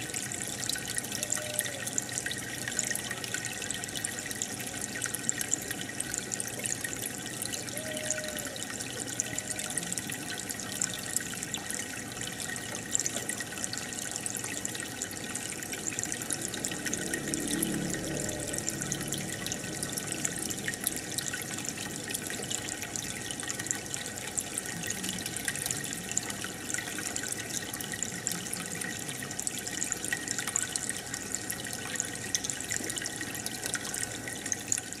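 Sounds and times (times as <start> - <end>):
aquarium air bubbler bubbling: 0.0 - 35.0.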